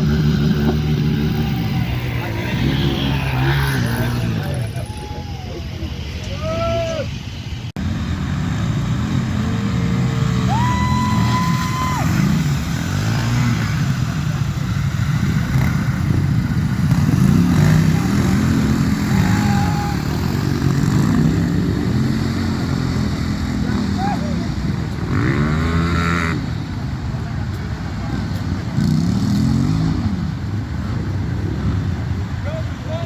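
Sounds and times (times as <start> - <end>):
motorcycle engine revving: 0.0 - 4.7, 7.8 - 27.0, 27.8 - 32.0.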